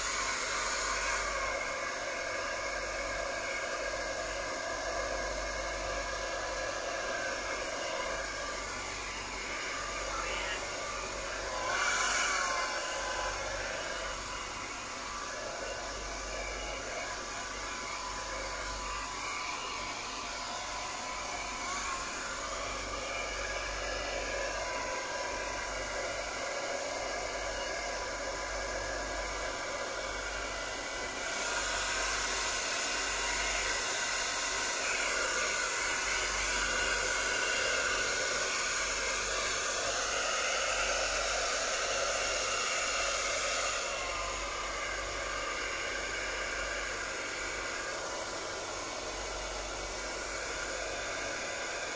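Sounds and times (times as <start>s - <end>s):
hair dryer blowing: 0.0s - 51.9s.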